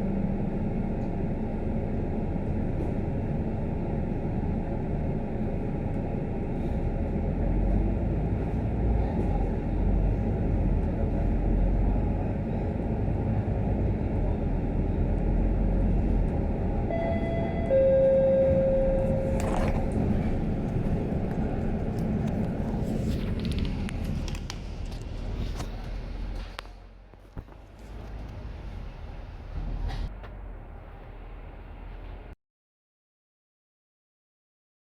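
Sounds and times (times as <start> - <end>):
bus engine and road rumble: 0.0 - 32.4.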